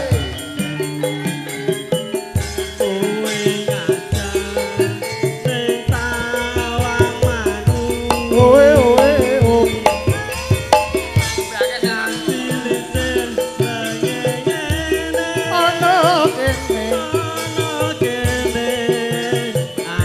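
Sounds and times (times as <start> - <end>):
high ornamented singing voice: 2.8 - 10.6, 11.4 - 20.0.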